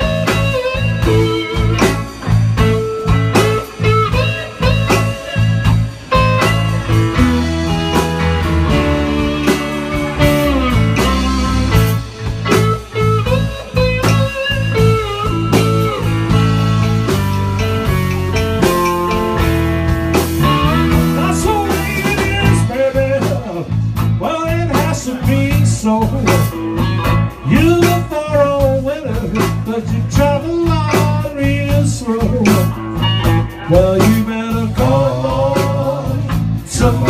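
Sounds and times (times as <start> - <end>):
bass line: 0.0 - 37.0
drum beats: 0.0 - 37.0
slide guitar: 0.0 - 37.0.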